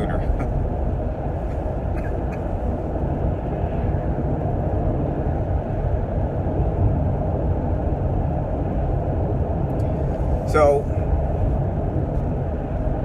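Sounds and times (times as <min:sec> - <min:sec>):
vehicle road noise rumbling: 0:00.0 - 0:13.0.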